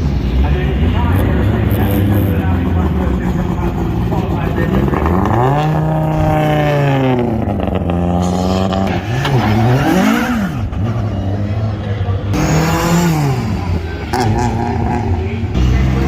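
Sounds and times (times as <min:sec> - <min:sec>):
rally car engine idling and revving: 0:00.0 - 0:16.0.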